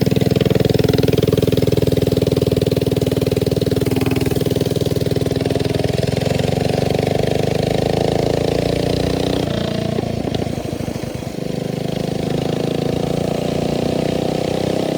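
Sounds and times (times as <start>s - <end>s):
small engine running: 0.0s - 14.9s.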